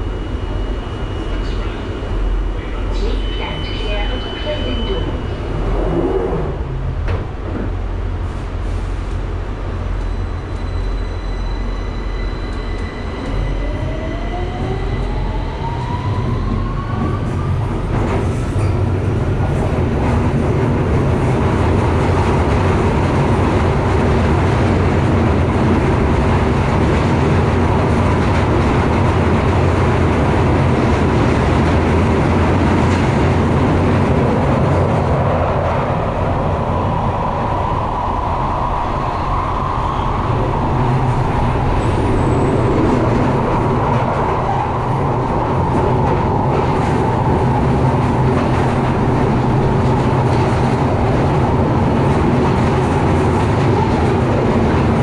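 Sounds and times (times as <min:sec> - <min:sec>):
train rumble and roar: 0:00.0 - 0:55.0.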